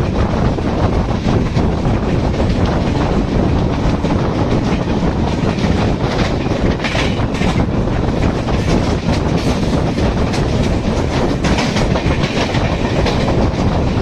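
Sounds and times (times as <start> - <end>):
clickety-clack over rail joints: 0.0 - 14.0
train wheels rumbling on rails: 0.0 - 14.0.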